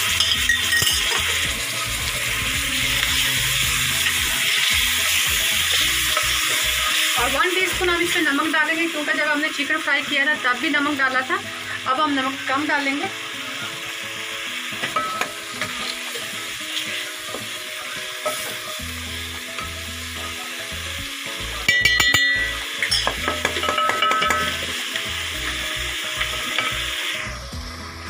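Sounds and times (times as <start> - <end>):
chicken sizzling in a pot: 0.0 - 28.0.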